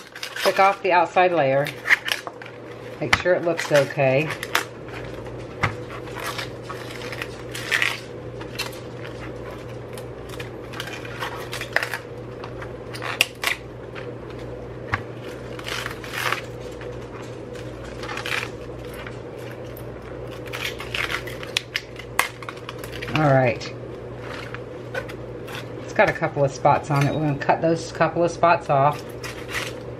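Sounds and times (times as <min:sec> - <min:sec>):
cabbage leaves snapping and peeling: 0:00.0 - 0:27.1, 0:28.7 - 0:29.9
steady low hum: 0:00.0 - 0:29.9.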